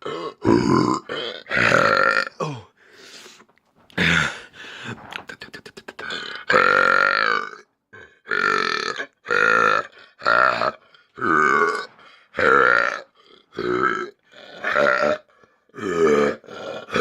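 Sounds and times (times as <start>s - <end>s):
man belching: 0.0s - 2.8s, 6.0s - 17.0s.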